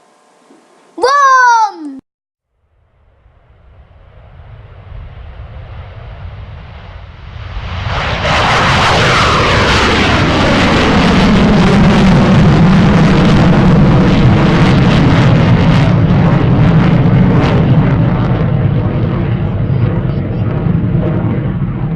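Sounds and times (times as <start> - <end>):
aeroplane engine whine: 2.6 - 21.9.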